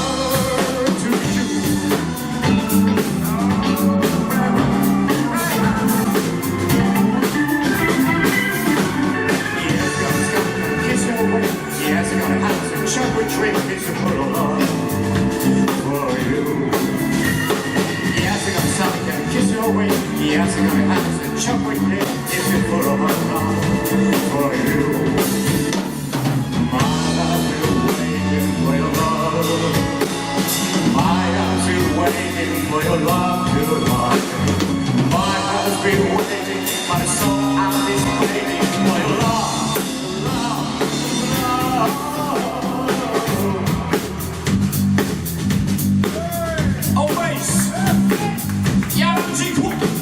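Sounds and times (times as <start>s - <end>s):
person singing: 0.0s - 25.9s, 26.5s - 44.5s
bass and guitar: 0.0s - 50.0s
drum kit beat: 0.0s - 50.0s
live rock band playing: 0.0s - 50.0s.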